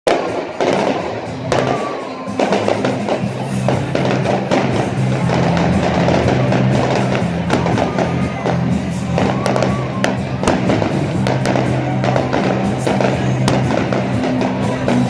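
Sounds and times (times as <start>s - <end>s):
fireworks cracking and banging: 0.1s - 15.0s
loud music with bass line: 0.1s - 15.0s.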